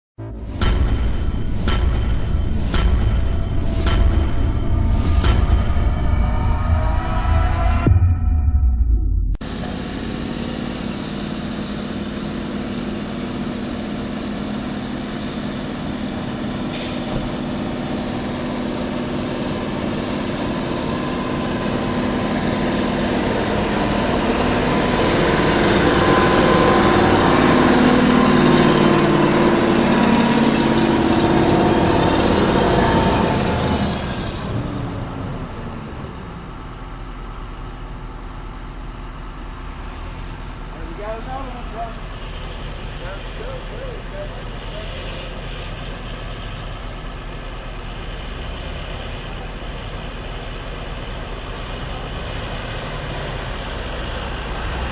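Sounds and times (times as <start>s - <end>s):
heavy diesel engine running: 0.2s - 54.9s.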